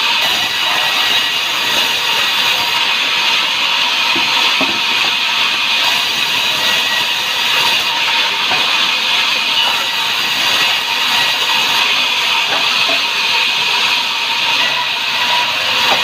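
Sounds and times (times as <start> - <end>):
sawmill saw cutting timber: 0.0 - 16.0.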